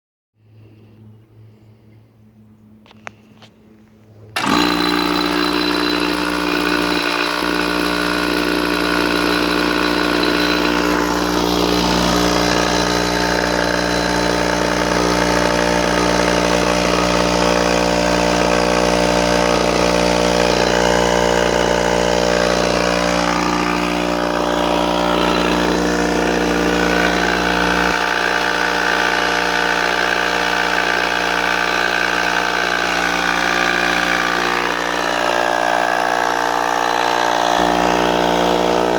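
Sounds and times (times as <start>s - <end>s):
air compressor running: 4.2s - 38.9s.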